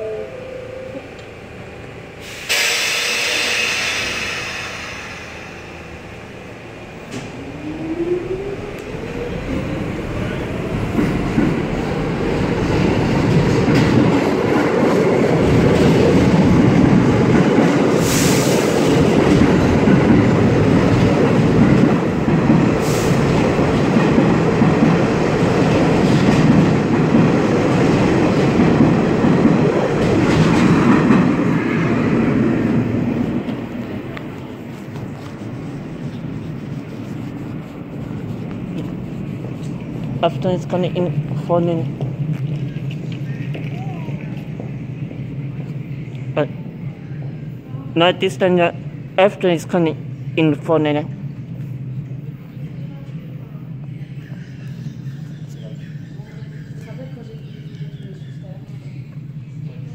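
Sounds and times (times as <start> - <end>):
subway train motors whining: 0.0 - 59.9
train wheels rumbling on rails: 1.1 - 49.4.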